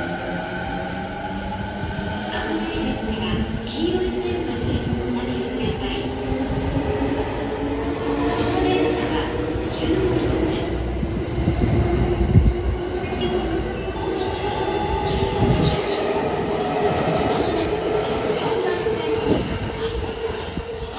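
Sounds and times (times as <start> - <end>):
electric train humming: 0.0 - 20.9.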